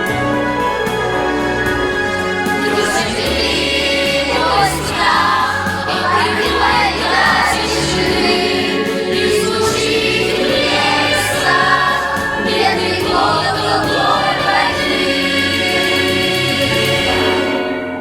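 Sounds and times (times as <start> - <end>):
choir singing held notes: 0.0 - 18.0
instrumental backing: 0.0 - 18.0.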